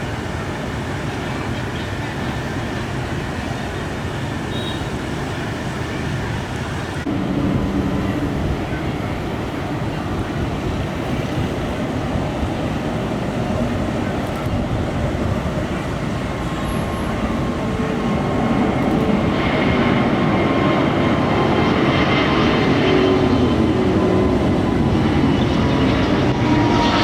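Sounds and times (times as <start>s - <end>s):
high engine whine: 0.0s - 27.0s
jet engine roar: 0.0s - 27.0s.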